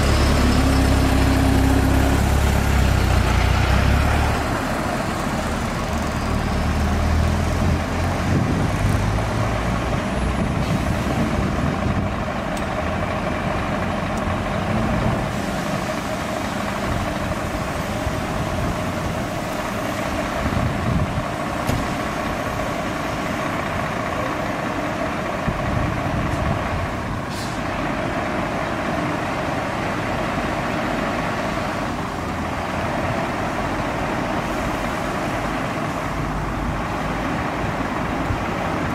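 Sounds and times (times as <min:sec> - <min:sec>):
diesel truck engines idling: 0:00.0 - 0:38.9.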